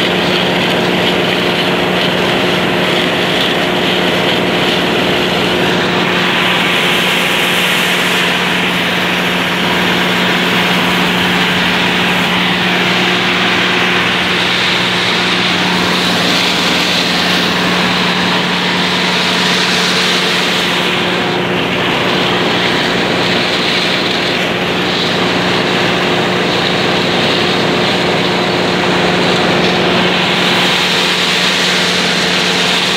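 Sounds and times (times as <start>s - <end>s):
combine harvester engine drone: 0.0s - 32.9s.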